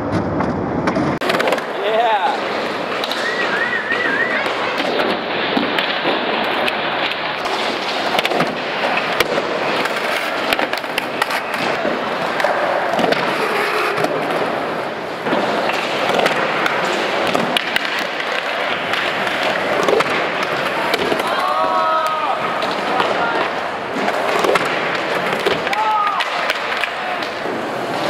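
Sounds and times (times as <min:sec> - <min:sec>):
skateboard wheels rolling on concrete: 0:00.0 - 0:28.0
skateboards clacking: 0:00.0 - 0:28.0.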